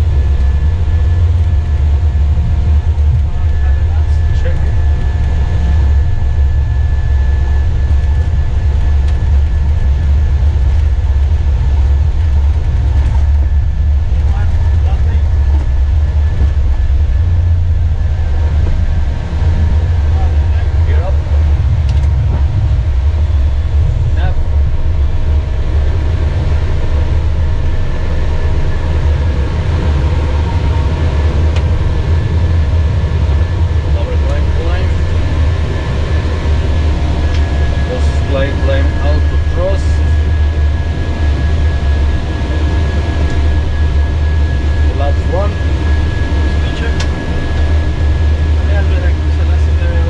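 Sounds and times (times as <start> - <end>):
jet engines rumbling: 0.0 - 50.0.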